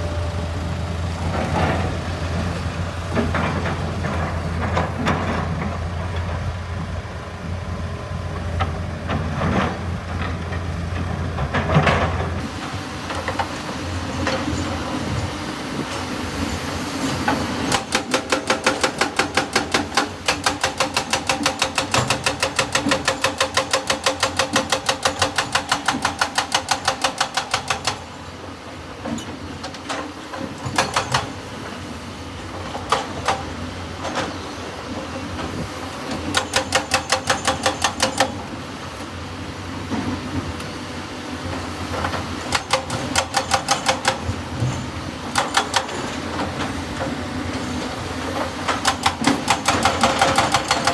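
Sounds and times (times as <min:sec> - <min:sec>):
excavator engine humming: 0:00.0 - 0:50.9.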